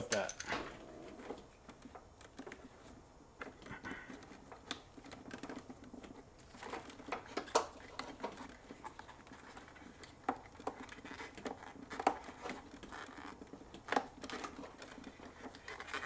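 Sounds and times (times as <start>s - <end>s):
rustling of cable and conduit: 0.0s - 16.0s.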